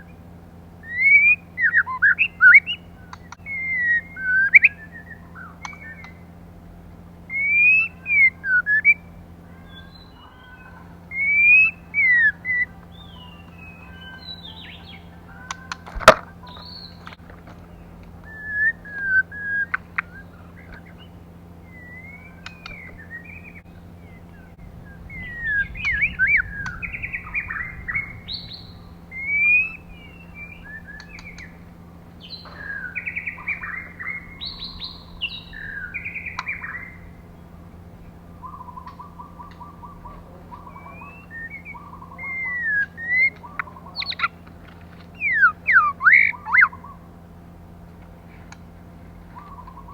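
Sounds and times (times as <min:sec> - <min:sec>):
bird whistled song: 0:00.0 - 0:06.5, 0:07.2 - 0:47.2, 0:49.2 - 0:49.9.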